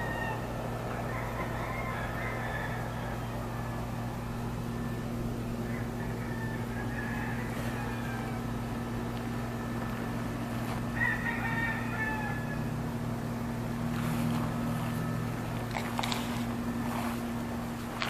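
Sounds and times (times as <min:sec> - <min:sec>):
lawn mower engine: 0:00.0 - 0:18.0
rooster crowing: 0:00.0 - 0:18.0.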